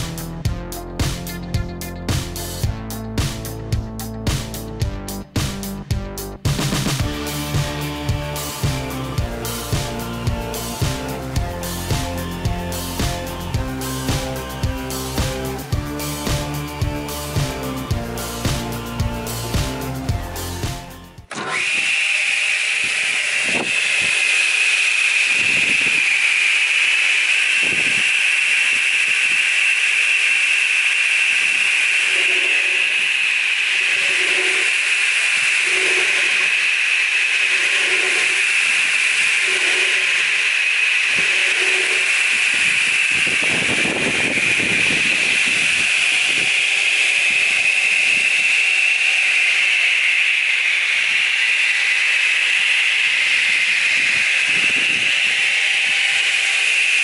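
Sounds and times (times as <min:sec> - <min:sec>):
saw blade crosscutting boards: 0:06.5 - 0:57.0
radial arm saw whining: 0:06.6 - 0:57.0.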